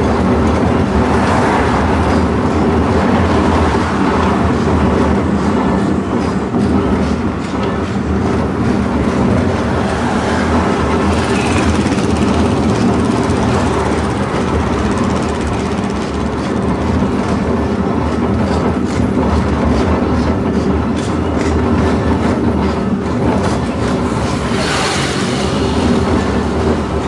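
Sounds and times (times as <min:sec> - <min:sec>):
tramcar wheels rattling on rails: 0:00.0 - 0:27.0.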